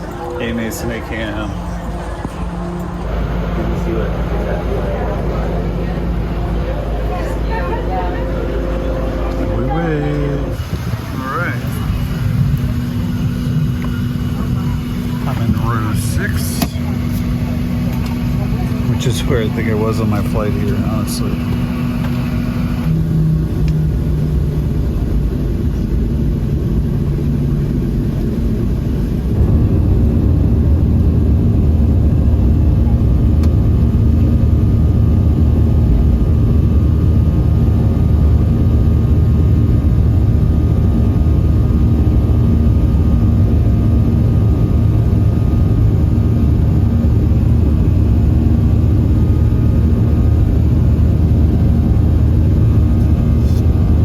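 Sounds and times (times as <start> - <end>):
jet engine cabin rumble: 0.0 - 54.0.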